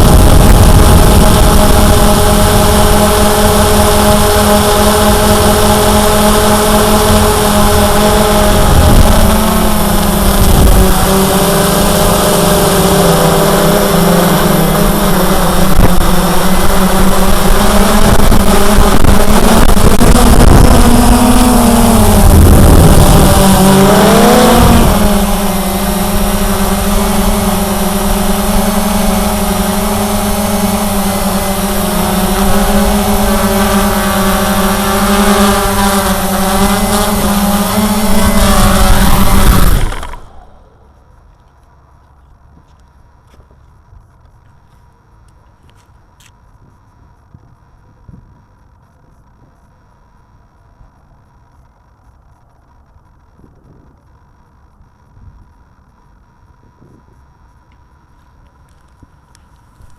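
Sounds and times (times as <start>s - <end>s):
quadcopter motors humming: 0.0s - 59.9s.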